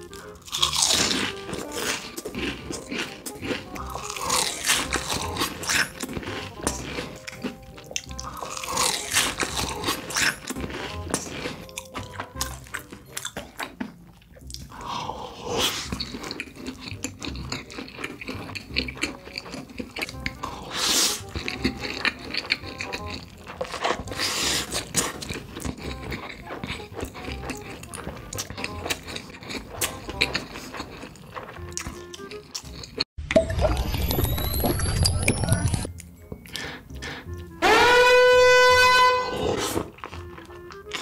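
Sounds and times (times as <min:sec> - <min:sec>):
crunchy food chewing: 0:00.0 - 0:33.1, 0:39.3 - 0:41.0.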